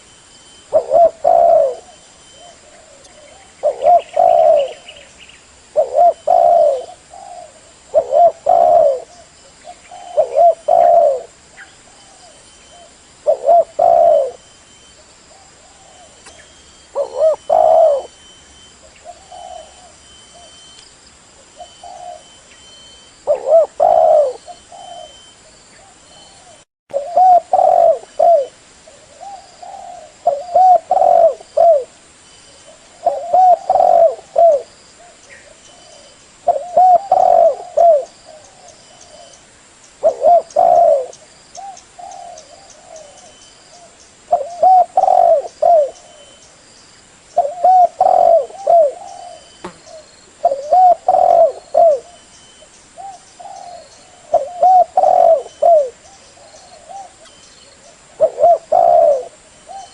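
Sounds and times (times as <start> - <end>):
dove cooing: 0.7 - 5.1, 5.7 - 14.5, 15.3 - 20.6, 21.4 - 22.4, 23.2 - 32.0, 32.6 - 39.4, 40.0 - 46.4, 47.4 - 52.3, 53.0 - 59.9.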